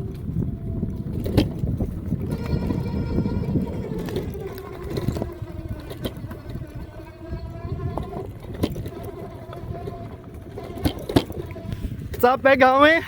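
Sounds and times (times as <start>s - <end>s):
electric motor whine: 0.0s - 12.2s
rumble of tyres and wind: 0.0s - 13.0s.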